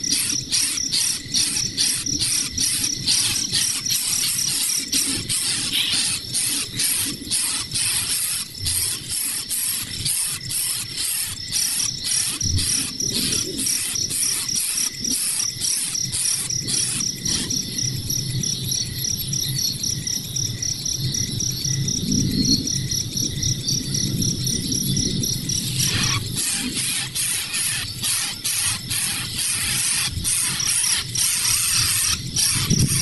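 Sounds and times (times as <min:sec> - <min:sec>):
insects chirping rhythmically: 0:00.0 - 0:33.0.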